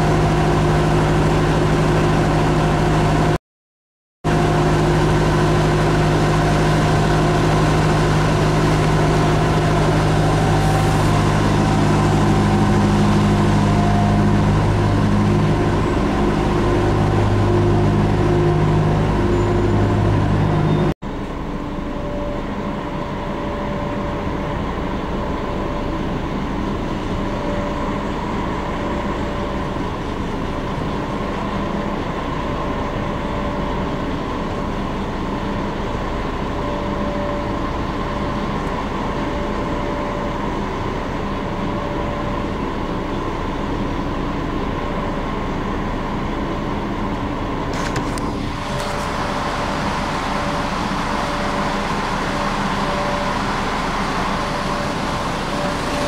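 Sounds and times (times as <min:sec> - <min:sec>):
diesel engine drone: 0:00.0 - 0:03.4, 0:04.2 - 0:56.0.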